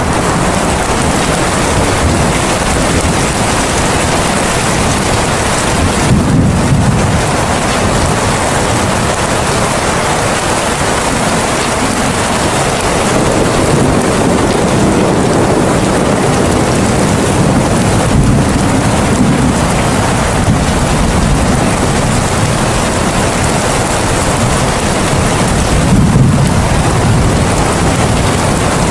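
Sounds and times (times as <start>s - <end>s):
heavy rain rushing: 0.0s - 28.9s.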